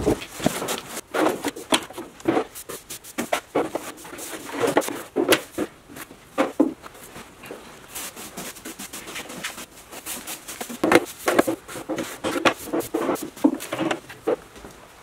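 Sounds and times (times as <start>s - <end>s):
broom sweeping concrete floor: 0.0s - 14.0s.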